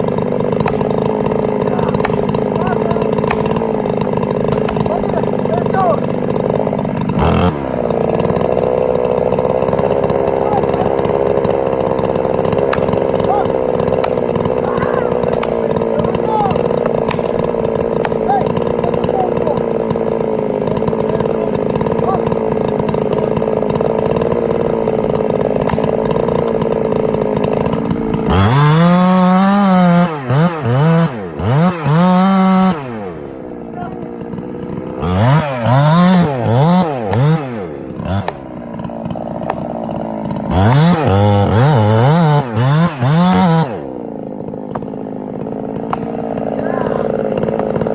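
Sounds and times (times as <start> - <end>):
chainsaw engine running: 0.0 - 47.9.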